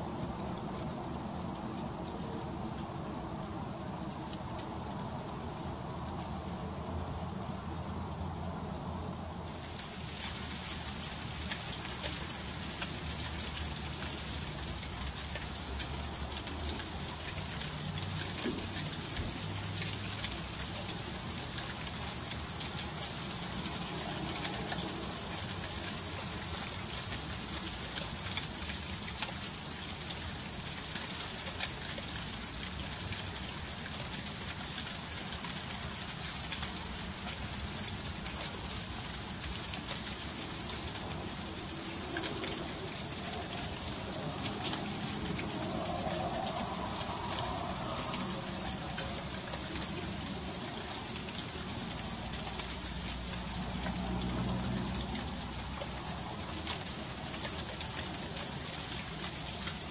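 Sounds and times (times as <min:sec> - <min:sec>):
freezing rain pattering: 0:00.0 - 0:59.9.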